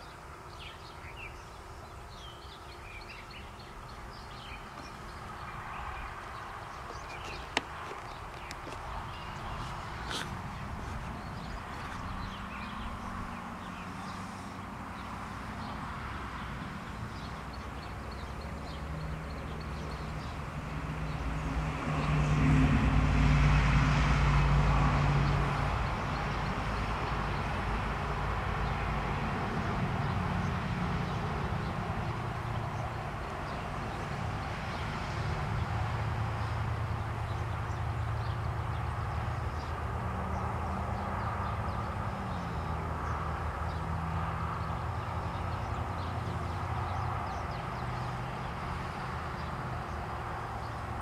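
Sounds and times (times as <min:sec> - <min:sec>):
distant engine hum: 0:00.0 - 0:51.0.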